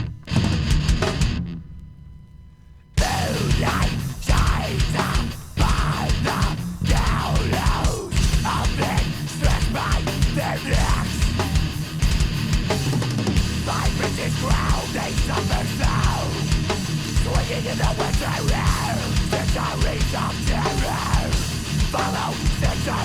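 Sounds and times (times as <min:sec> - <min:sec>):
drum kit: 0:00.0 - 0:01.9, 0:03.0 - 0:23.0
distorted electric guitars: 0:00.0 - 0:23.0.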